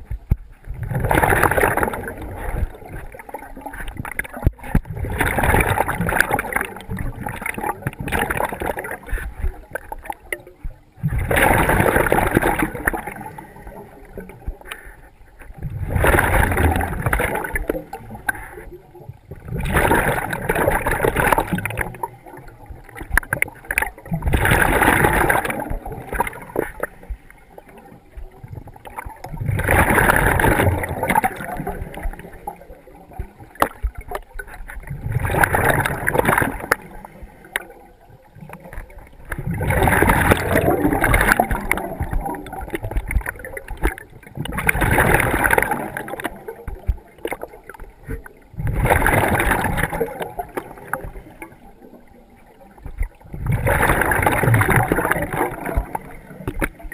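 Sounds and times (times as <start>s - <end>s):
bubbles underwater: 0.0s - 56.9s.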